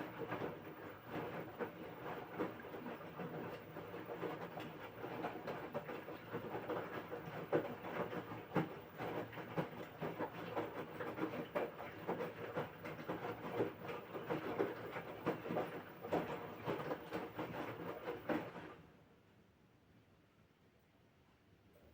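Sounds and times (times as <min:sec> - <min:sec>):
washing machine churning: 0:00.0 - 0:18.9.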